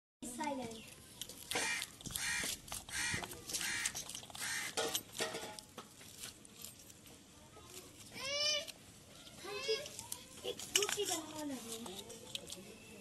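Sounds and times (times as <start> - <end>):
knife scraping fruit: 0.4 - 13.0.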